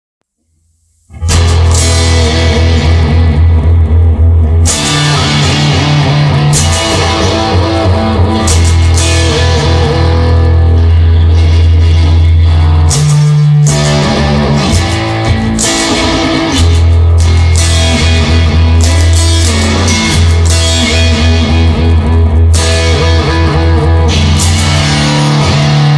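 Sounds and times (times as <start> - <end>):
heavy bass line: 1.1 - 25.9
instrumental rock music: 1.1 - 25.9.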